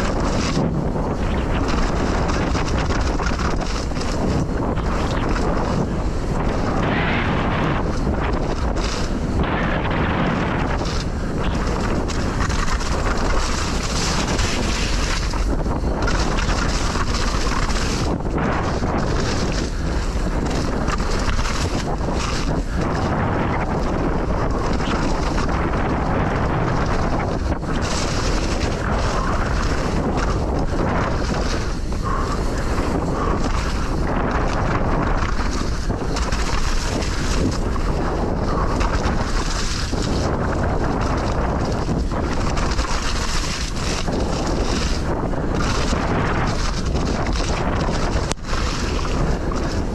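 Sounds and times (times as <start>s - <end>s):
bike tyres rolling on wet dirt: 0.0s - 49.9s
wind rush on microphone: 0.0s - 49.9s.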